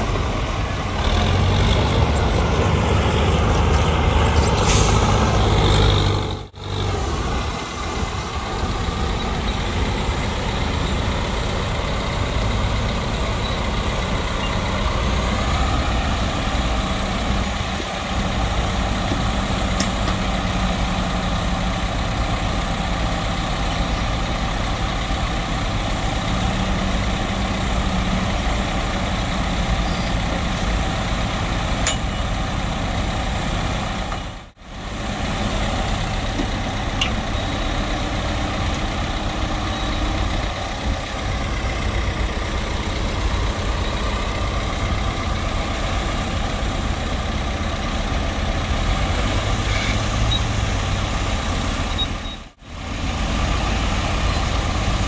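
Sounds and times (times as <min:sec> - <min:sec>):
bulldozer diesel engines under load: 0:00.0 - 0:55.0.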